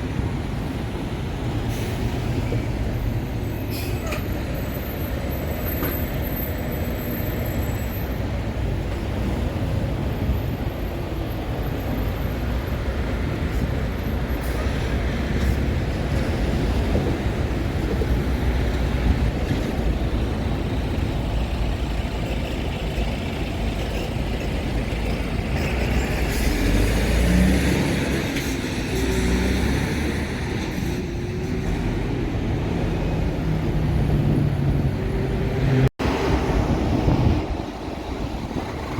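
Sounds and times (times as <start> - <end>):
train rumbling past: 0.0 - 38.9.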